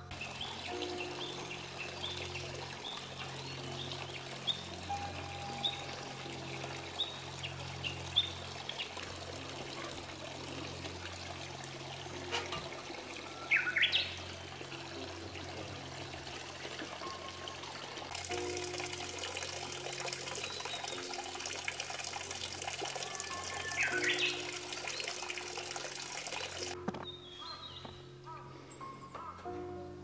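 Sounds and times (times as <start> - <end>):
water running and trickling: 0.0 - 26.8.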